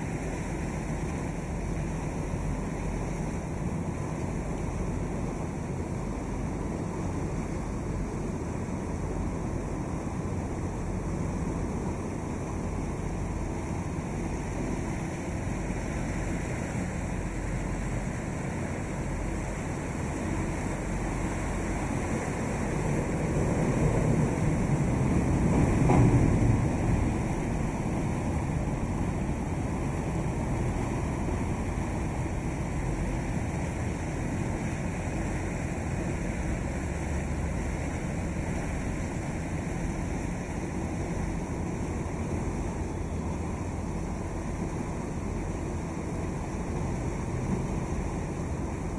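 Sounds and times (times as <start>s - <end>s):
low boat hum: 0.0s - 48.9s
wind and water rushing: 0.0s - 48.9s.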